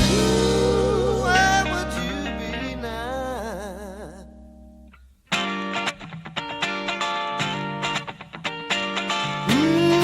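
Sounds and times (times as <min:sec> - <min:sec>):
strummed guitar choppy chords: 0:00.0 - 0:10.0.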